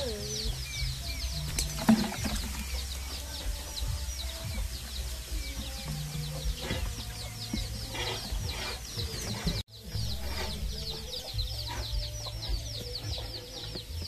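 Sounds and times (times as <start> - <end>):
chicken clucking: 0.0 - 14.0
small birds chirping: 0.0 - 14.0.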